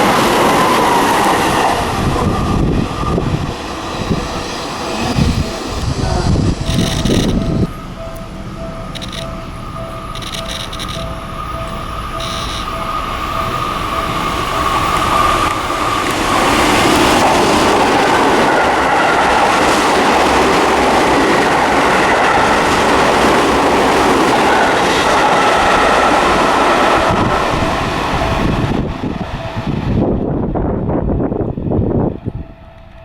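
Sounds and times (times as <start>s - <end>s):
electric train passing at speed: 0.0s - 33.0s.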